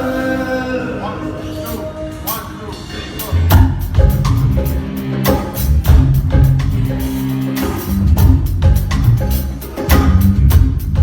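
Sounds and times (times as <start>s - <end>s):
film song with heavy bass and drums: 1.7s - 11.0s.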